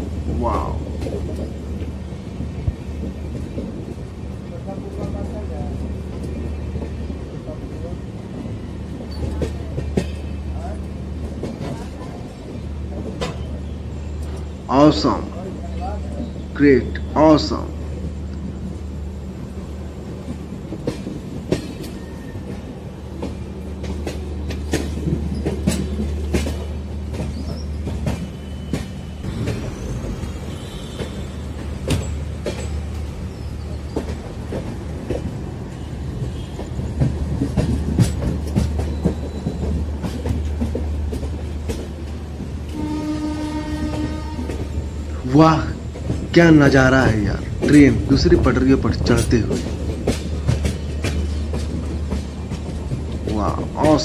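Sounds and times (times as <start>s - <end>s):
train rumbling on tracks: 0.0s - 54.0s
wheels clanking over rail joints: 0.0s - 54.0s.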